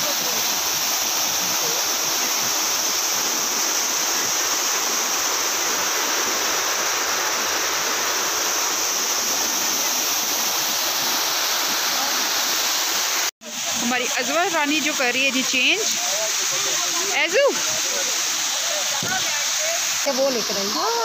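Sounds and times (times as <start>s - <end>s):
water rushing down weir: 0.0s - 21.0s.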